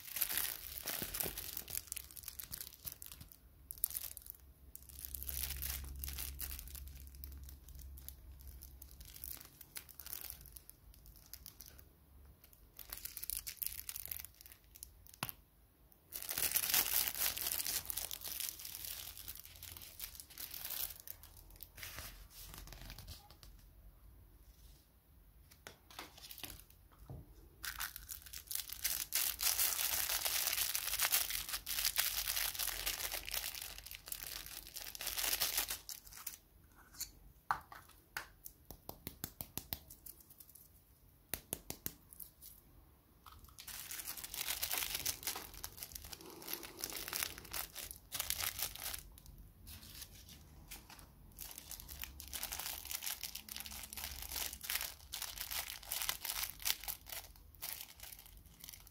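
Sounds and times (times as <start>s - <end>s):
plastic wrappers crinkling and tearing: 0.0s - 15.4s, 16.1s - 23.6s, 25.6s - 26.8s, 27.6s - 36.4s, 43.2s - 58.9s.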